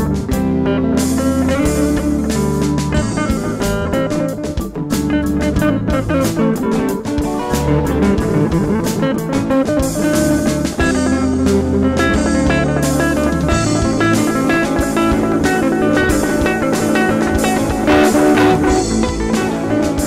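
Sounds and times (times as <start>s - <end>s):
live band playing instrumental: 0.0s - 20.0s
steady drum beat: 0.0s - 20.0s.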